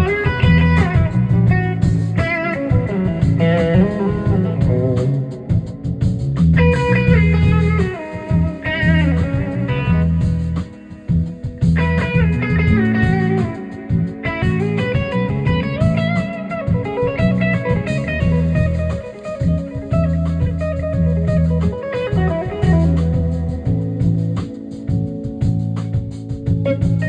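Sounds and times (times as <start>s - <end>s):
bass guitar: 0.0s - 27.0s
drum kit: 0.0s - 27.0s
electric guitar lead lines: 0.0s - 27.0s.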